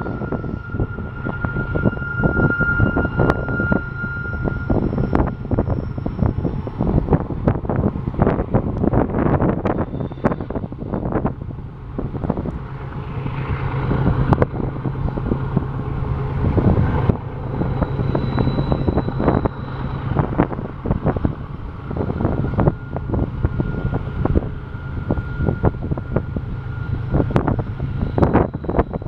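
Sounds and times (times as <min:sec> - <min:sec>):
high wheel squeal: 0:00.0 - 0:29.0
low train rumble: 0:00.0 - 0:29.0
lower wheel squeal: 0:00.0 - 0:29.0.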